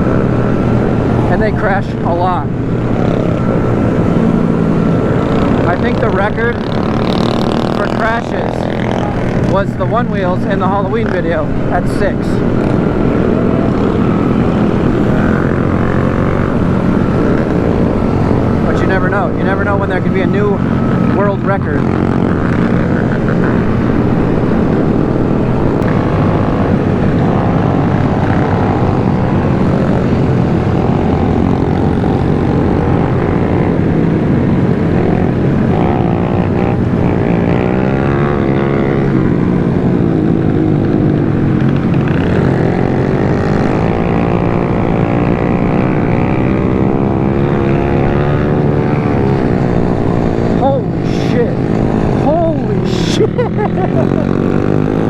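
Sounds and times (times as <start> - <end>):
engines revving: 0.0 - 55.0
mini bike engines running: 0.0 - 55.0.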